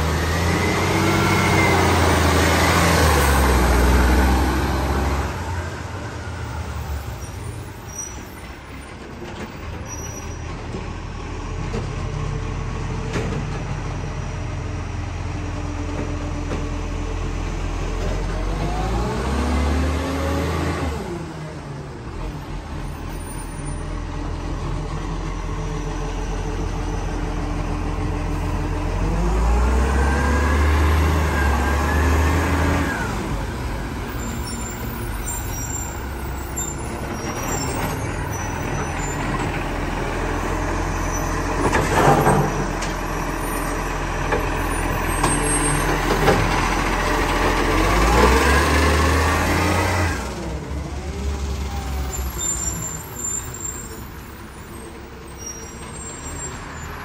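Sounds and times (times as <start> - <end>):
diesel truck engine revving: 0.0 - 7.8, 10.9 - 57.0.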